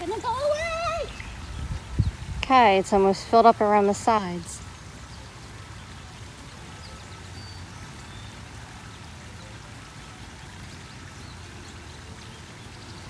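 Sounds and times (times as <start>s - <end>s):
water spraying and pattering: 0.0s - 13.0s.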